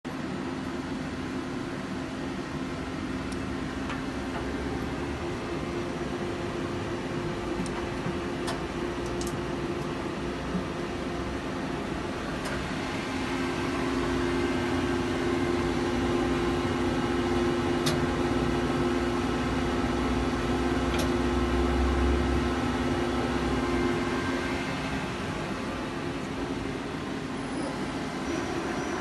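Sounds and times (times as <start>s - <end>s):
lathe machine hum: 0.1s - 29.0s.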